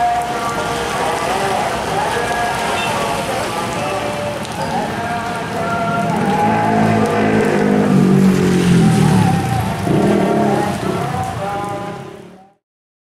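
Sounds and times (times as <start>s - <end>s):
motorcycle passing on wet road: 0.0s - 12.6s
street traffic: 0.0s - 12.6s.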